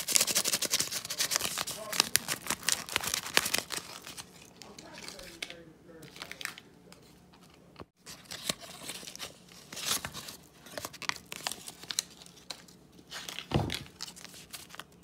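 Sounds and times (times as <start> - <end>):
packaging crinkling and tearing: 0.0 - 7.0, 8.0 - 15.0.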